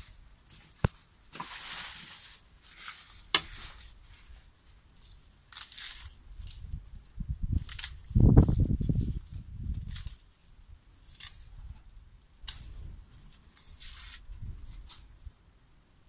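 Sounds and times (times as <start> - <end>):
dry stalks rustling and crackling: 0.0 - 15.9.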